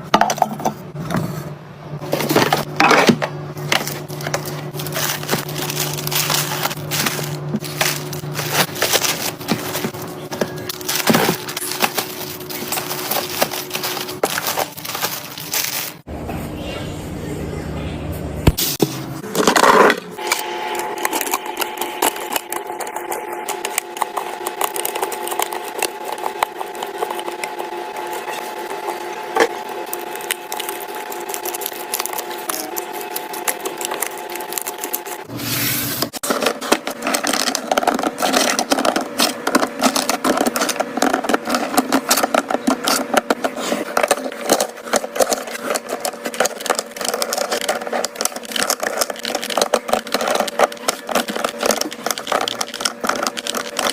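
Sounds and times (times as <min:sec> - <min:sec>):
steady hum: 0:00.0 - 0:53.9
food packaging clicking and rattling: 0:02.0 - 0:16.1, 0:20.9 - 0:35.3, 0:36.1 - 0:53.9.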